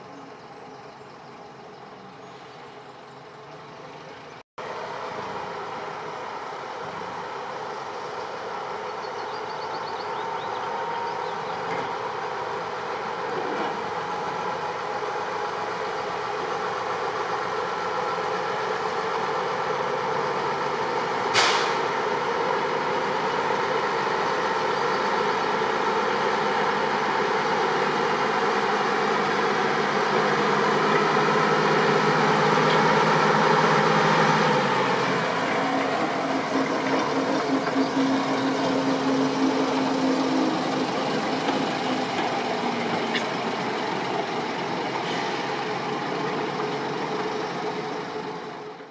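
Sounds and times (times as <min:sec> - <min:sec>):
diesel locomotive engine running: 0:00.0 - 0:48.9.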